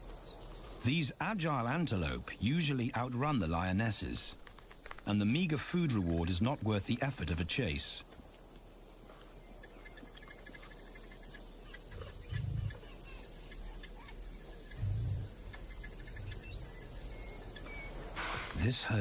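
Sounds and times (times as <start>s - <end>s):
birds chirping: 0.0s - 19.0s
insects chirping: 0.0s - 19.0s.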